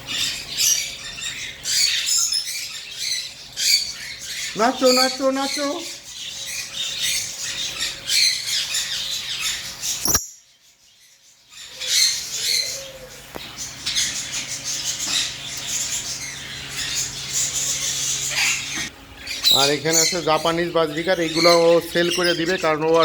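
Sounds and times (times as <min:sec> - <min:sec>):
caged birds chirping and squawking: 0:00.0 - 0:23.0.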